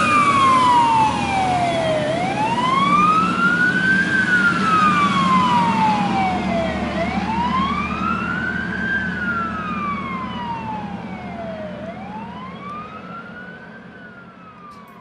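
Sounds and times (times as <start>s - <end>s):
fire engine siren wailing: 0.0s - 15.0s
truck engine rumble: 0.0s - 15.0s.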